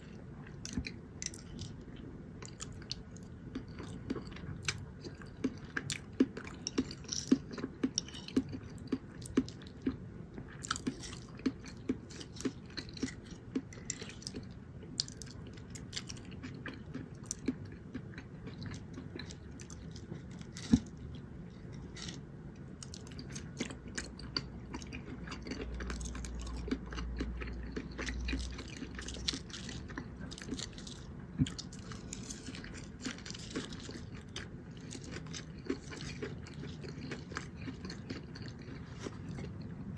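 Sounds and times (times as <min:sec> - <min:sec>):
close chewing and mouth sounds: 0:00.0 - 0:39.9.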